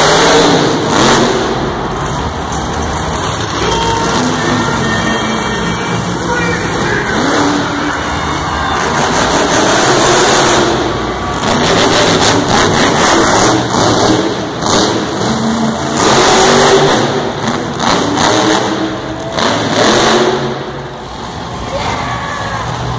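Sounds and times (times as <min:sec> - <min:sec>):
truck engine revving loudly: 0:00.0 - 0:21.7.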